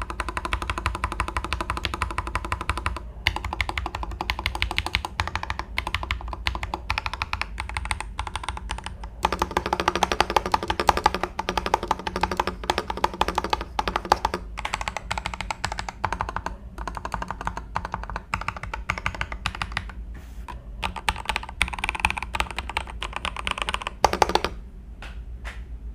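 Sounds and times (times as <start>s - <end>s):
mechanical keyboard typing clicks: 0.0s - 24.6s.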